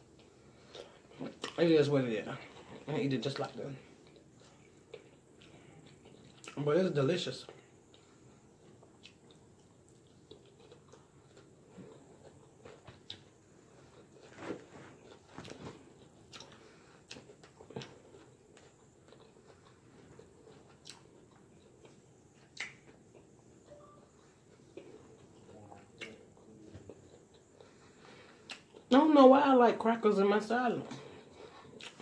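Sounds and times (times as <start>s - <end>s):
chewing crunchy food: 0.0s - 1.6s, 2.4s - 6.6s, 7.4s - 28.9s, 30.9s - 32.0s.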